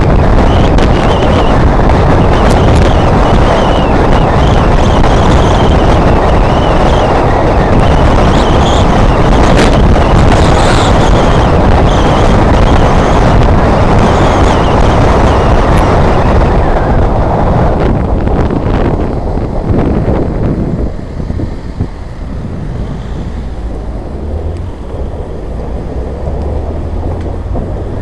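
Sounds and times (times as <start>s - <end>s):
rush of bike ride: 0.0s - 28.0s
wind buffeting microphone: 0.0s - 28.0s.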